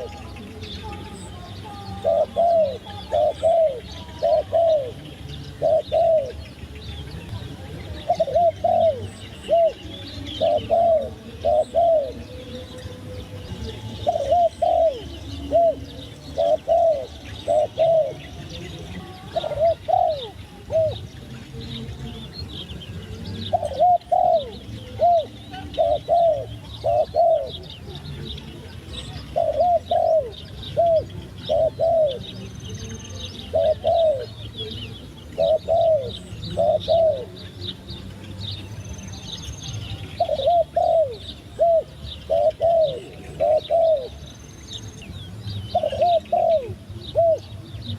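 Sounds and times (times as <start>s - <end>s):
dove cooing: 0.0s - 6.5s, 7.9s - 12.7s, 13.6s - 22.2s, 23.1s - 32.4s, 33.2s - 37.6s, 40.0s - 44.3s, 45.1s - 47.9s
small birds chirping: 0.0s - 47.9s.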